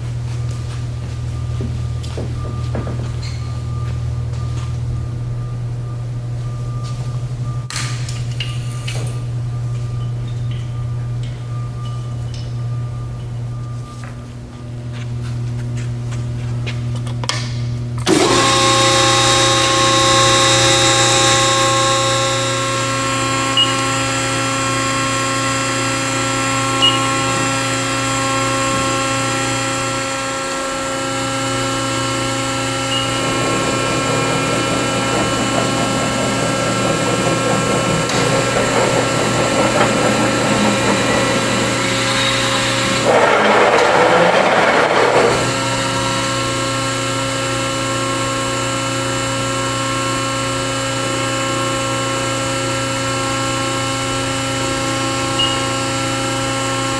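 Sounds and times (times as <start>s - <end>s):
busy mechanical noise: 0.0s - 56.9s
press brake machine hum: 0.0s - 56.9s.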